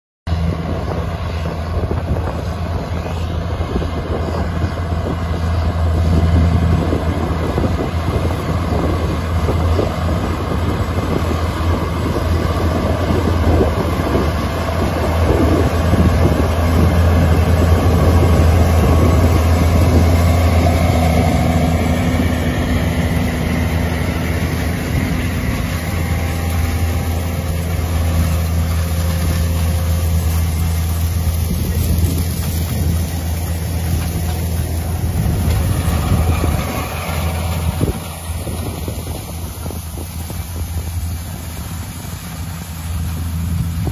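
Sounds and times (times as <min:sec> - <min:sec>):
tractor diesel engine droning: 0:00.3 - 0:43.9.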